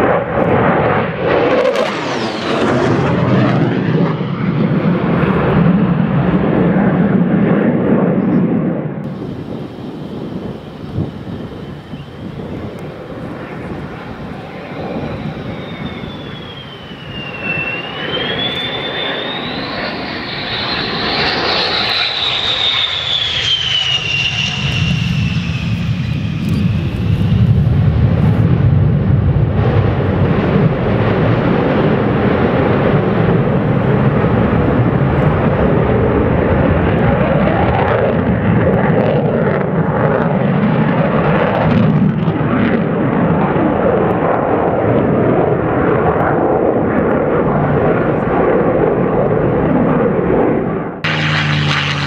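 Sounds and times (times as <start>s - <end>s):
jet turbine whine: 0.0s - 52.0s
loud low jet rumble: 0.0s - 52.0s.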